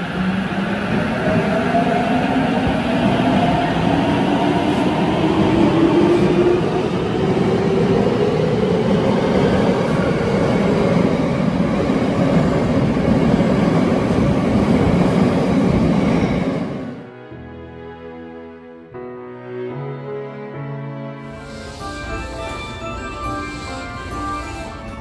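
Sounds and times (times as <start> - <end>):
subway train motors whining: 0.0 - 17.2, 21.2 - 25.0.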